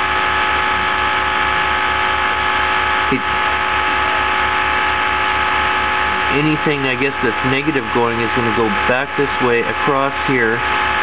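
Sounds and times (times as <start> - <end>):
pulsing low hum: 0.0 - 11.0.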